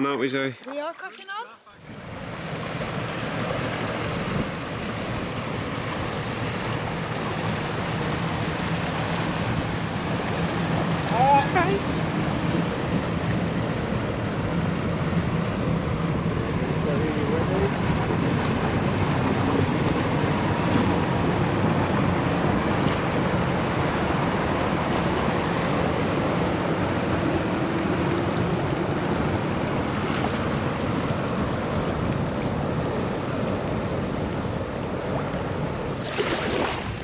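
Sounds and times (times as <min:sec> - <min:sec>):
water lapping against kayak: 0:00.3 - 0:37.0.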